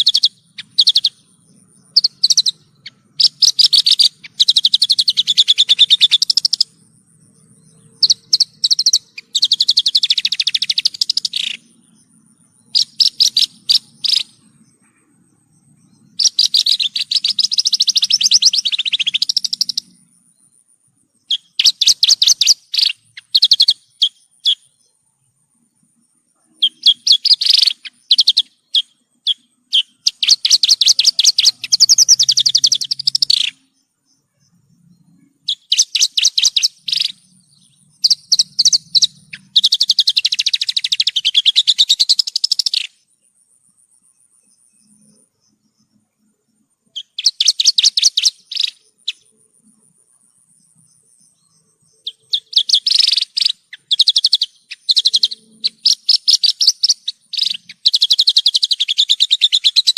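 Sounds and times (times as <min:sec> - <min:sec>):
bush lark trilling song: 0:00.0 - 0:59.9.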